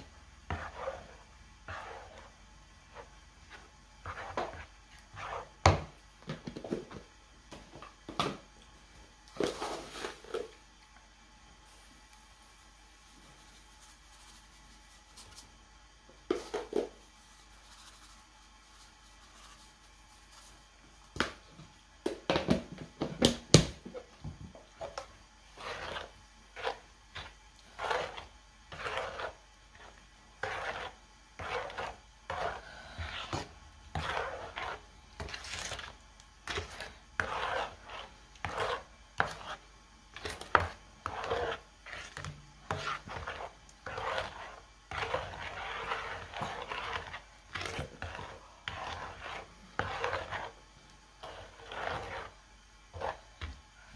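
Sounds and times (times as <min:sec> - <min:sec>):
spatula stirring thick mixture: 0:00.0 - 0:53.9.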